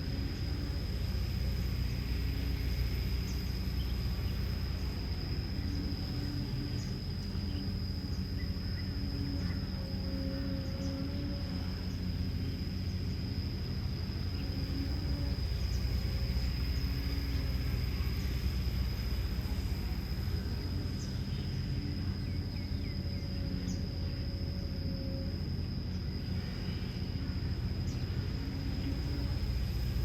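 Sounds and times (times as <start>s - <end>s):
excavator diesel engine running: 0.0s - 30.0s
steady high-pitched tone: 0.0s - 30.0s.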